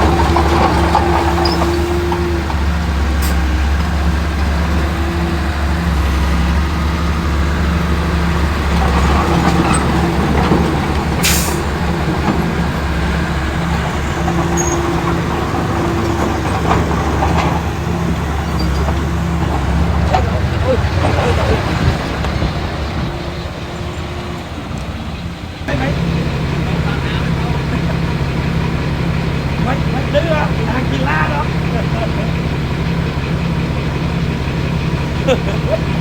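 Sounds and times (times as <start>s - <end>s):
heavy diesel engine droning: 0.0s - 36.0s.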